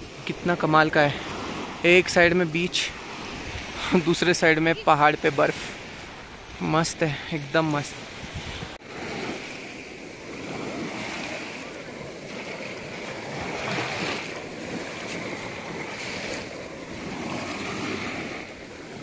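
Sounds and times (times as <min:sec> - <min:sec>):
lake waves lapping on shore: 0:00.0 - 0:19.0
wind on microphone: 0:01.1 - 0:04.9, 0:05.6 - 0:19.0.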